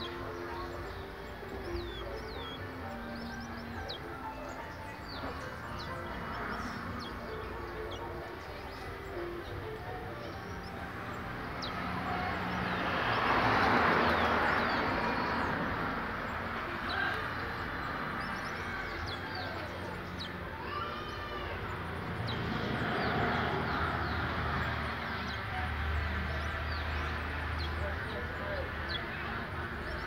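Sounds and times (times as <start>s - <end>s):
finches chirping: 0.0s - 30.0s
rushing background noise: 0.0s - 30.0s.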